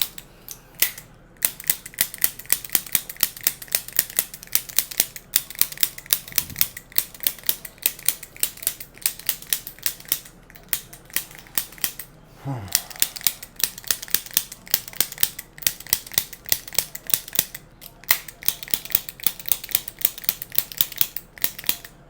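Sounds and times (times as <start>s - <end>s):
rapid mechanical clicking: 0.8s - 12.1s, 12.8s - 21.9s.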